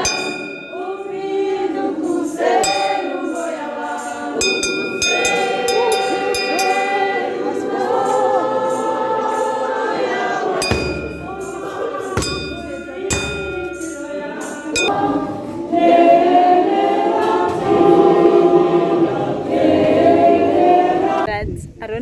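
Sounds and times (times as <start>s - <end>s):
choir singing gospel: 0.0s - 21.3s.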